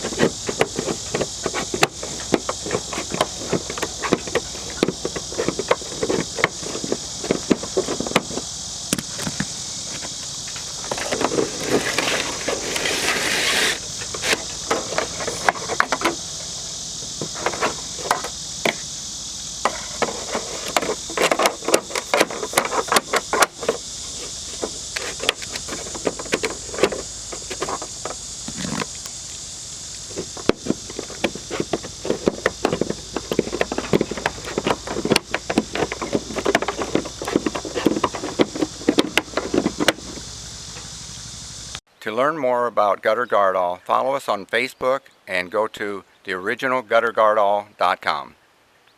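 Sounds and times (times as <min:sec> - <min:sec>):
steady high hiss: 0:00.0 - 0:48.9.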